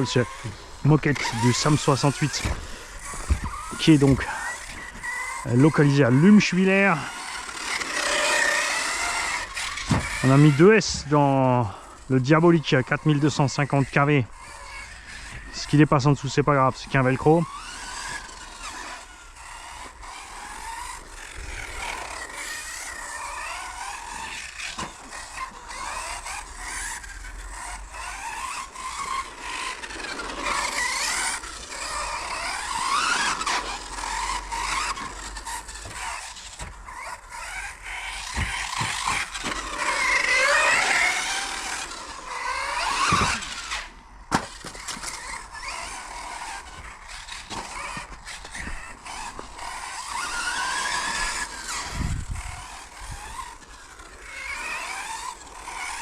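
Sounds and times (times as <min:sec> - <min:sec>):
tyres scrubbing on carpet: 0:00.0 - 0:27.0, 0:27.6 - 0:53.6
electric motor whining: 0:00.0 - 0:56.0.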